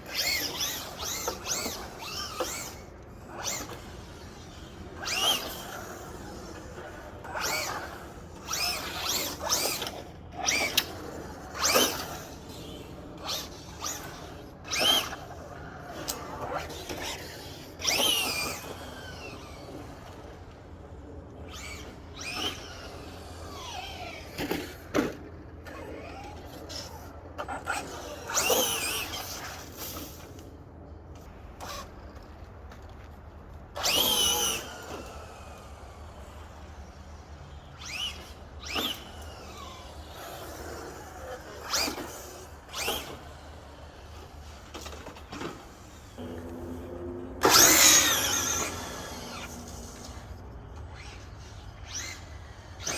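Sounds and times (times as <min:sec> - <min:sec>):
rc truck electric motor whining: 0:00.0 - 0:30.5, 0:31.1 - 0:52.9.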